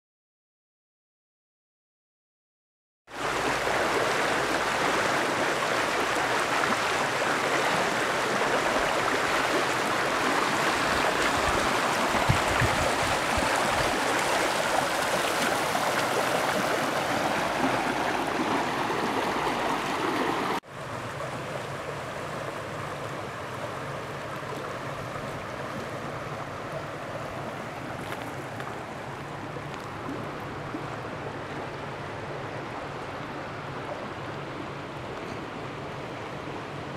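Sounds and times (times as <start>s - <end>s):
stream rushing over rocks: 3.1s - 36.9s.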